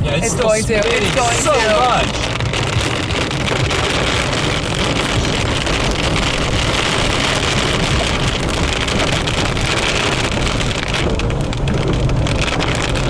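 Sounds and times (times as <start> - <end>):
car driving rumble: 0.0 - 13.0
heavy rain pelting a car: 0.0 - 13.0
wind buffeting microphone: 0.0 - 13.0.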